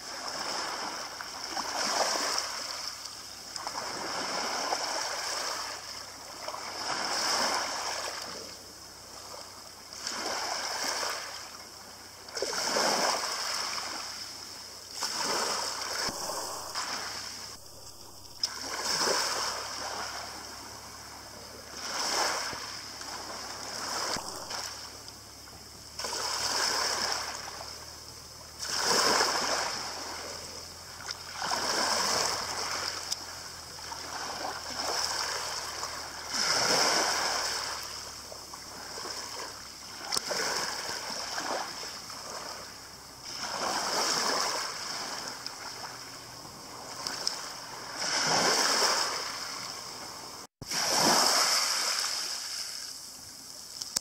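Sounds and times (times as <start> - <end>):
waves washing over shingle: 0.0 - 54.0.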